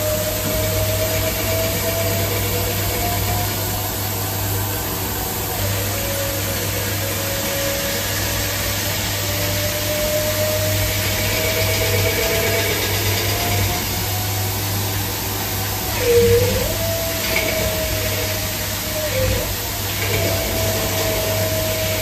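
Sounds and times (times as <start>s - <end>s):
lathe spindle and coolant hiss: 0.0s - 22.0s.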